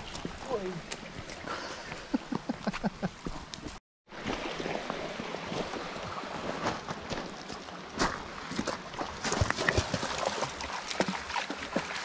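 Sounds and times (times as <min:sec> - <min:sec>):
feet splashing through water: 0:00.0 - 0:02.4, 0:03.2 - 0:12.0
creek running over stones: 0:00.0 - 0:12.0.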